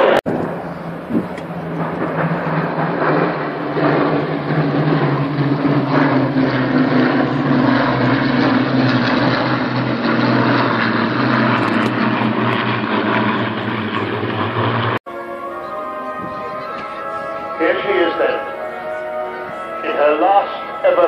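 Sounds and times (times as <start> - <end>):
propeller aircraft engines droning: 0.0 - 21.0.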